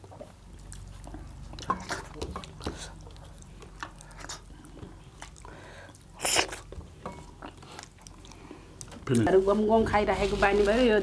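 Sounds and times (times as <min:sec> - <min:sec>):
chewing mouth clicks and smacks: 0:00.0 - 0:09.3.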